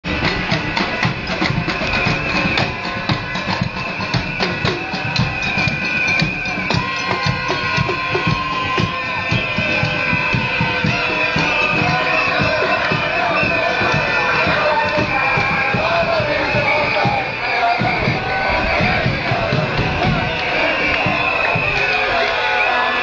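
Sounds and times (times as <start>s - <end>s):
drums beating steadily: 0.0s - 23.0s.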